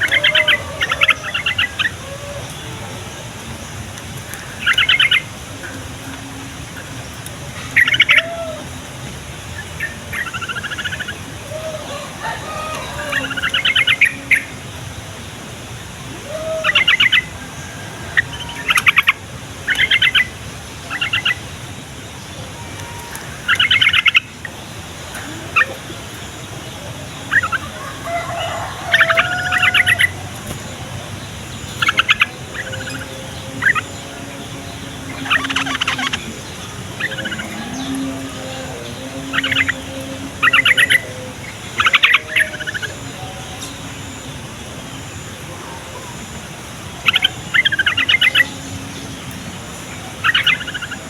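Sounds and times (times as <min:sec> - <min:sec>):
bird singing bubbly phrases: 0:00.0 - 0:51.0.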